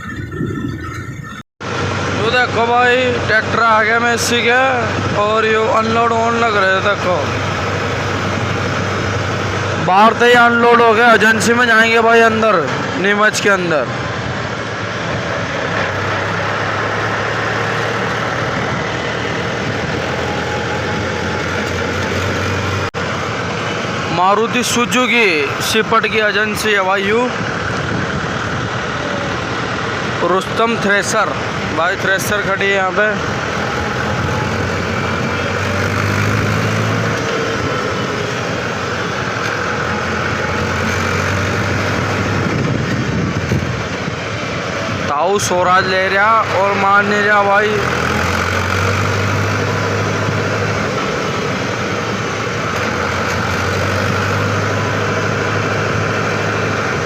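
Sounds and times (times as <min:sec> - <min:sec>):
road and wind noise: 0:00.0 - 0:57.0
tractor diesel engine running: 0:00.0 - 0:57.0.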